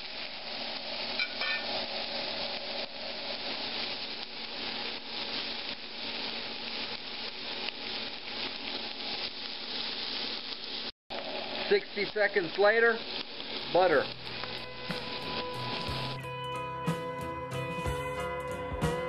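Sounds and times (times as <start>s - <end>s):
steak sizzling in a skillet: 0.0s - 18.0s.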